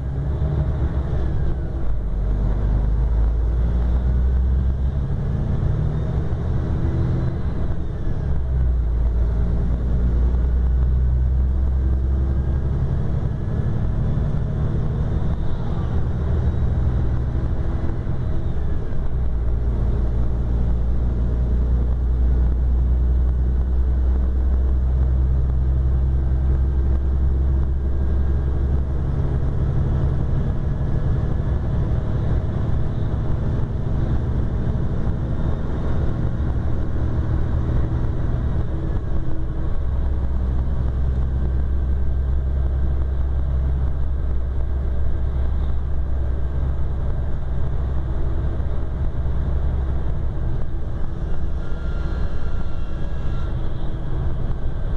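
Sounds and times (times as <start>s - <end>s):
bus diesel engine droning: 0.0s - 54.9s.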